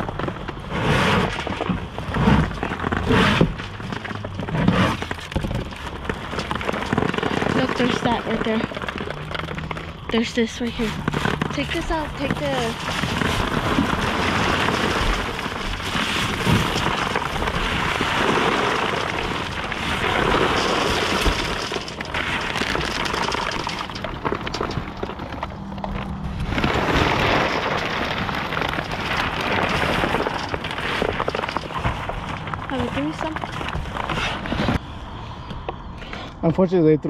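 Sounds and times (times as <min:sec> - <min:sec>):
cardboard rustling and scraping: 0:00.0 - 0:34.8.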